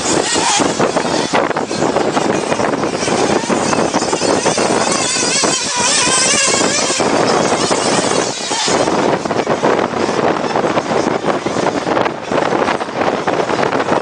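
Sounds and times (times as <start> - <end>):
electric motor whining: 0.0 - 14.0
rough rolling noise: 0.0 - 14.0.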